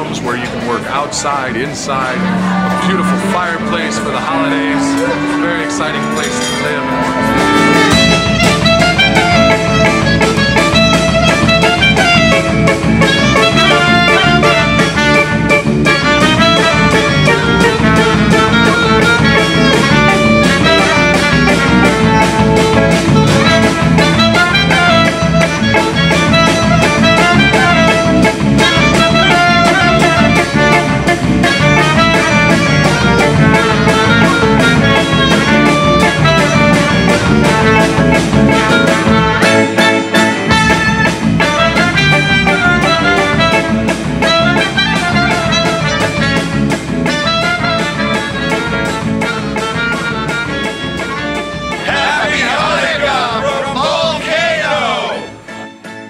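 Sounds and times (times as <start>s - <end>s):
klezmer band music: 0.0s - 56.0s
clarinet melody: 2.0s - 52.6s.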